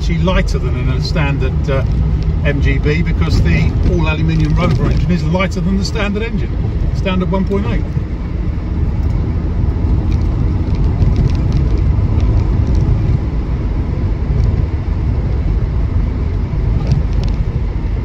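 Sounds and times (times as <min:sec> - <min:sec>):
car engine rumbling: 0:00.0 - 0:18.0
road noise: 0:00.0 - 0:18.0.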